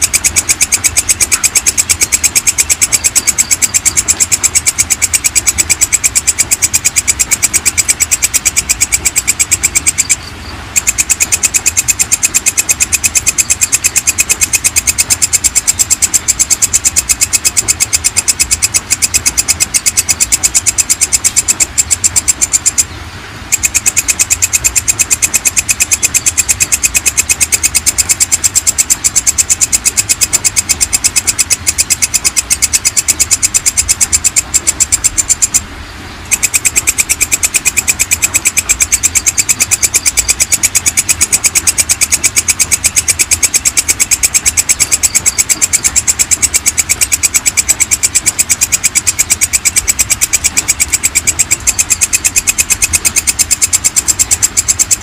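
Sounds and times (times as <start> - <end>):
insect chirping pulses: 0.0 - 55.0.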